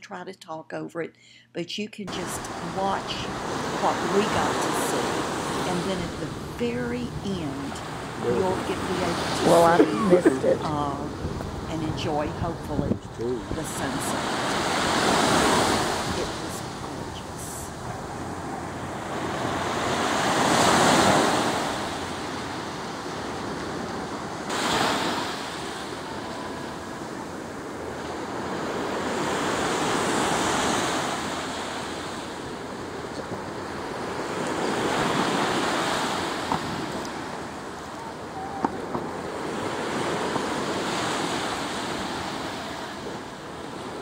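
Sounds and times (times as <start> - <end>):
ocean surf breaking on beach: 2.2 - 44.0.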